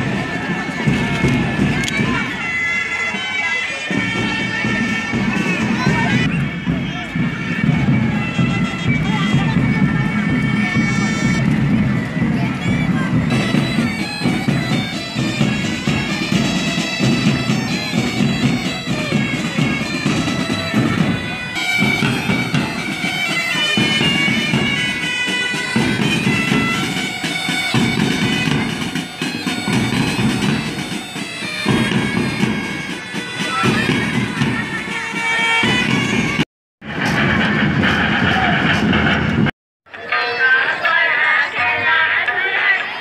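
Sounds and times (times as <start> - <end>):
bagpipes playing marching tune: 0.0 - 39.5.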